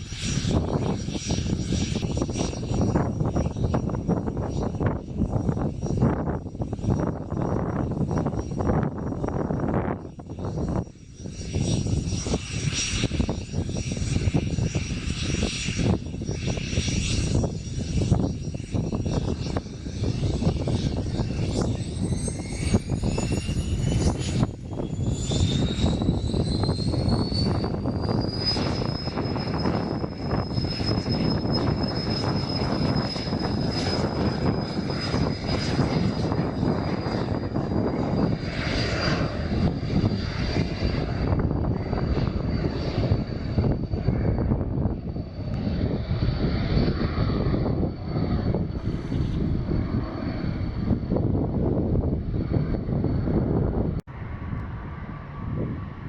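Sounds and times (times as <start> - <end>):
high whine rising in pitch: 0.0 - 56.0
turboprop engines running rough: 0.0 - 56.0.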